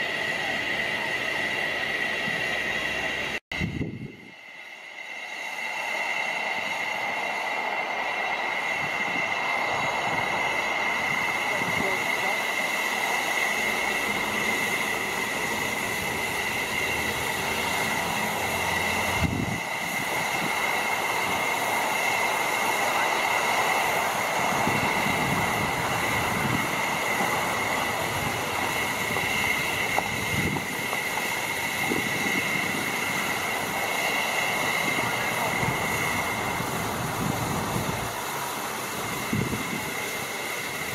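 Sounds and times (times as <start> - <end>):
steam hissing with whistling note: 0.0 - 40.9.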